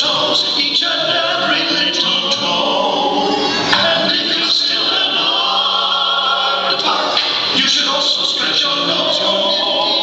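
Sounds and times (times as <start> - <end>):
music with group singing: 0.0 - 10.0.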